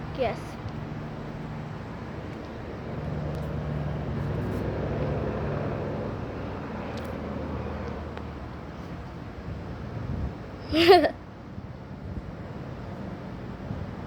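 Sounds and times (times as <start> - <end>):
helicopter droning overhead: 0.0 - 14.0.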